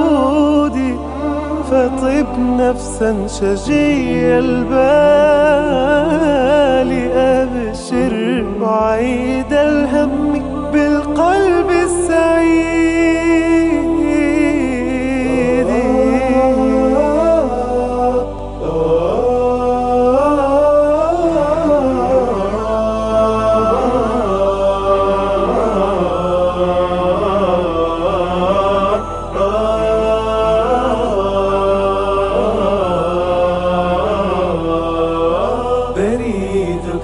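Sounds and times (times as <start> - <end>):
low sustained drone: 0.0 - 37.0
person singing ornamented melody: 0.0 - 37.0.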